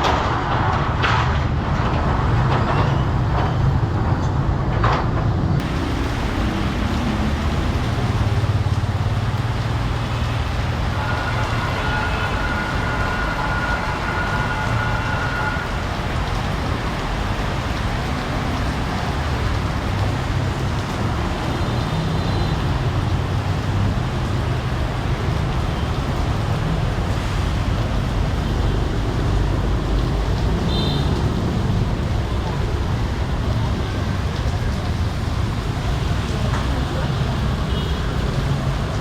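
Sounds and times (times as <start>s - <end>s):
traffic engines running: 0.0s - 39.0s.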